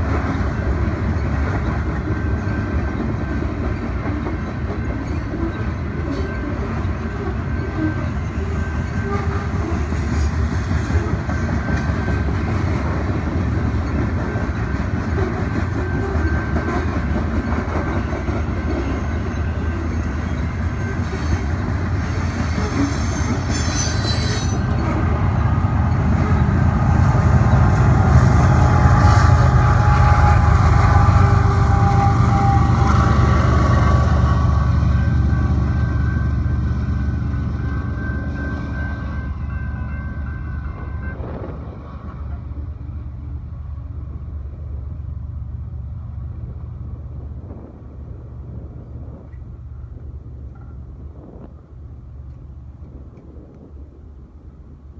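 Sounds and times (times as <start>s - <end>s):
diesel locomotive passing: 0.0s - 54.9s
train wheels rumbling on rail: 0.0s - 54.9s.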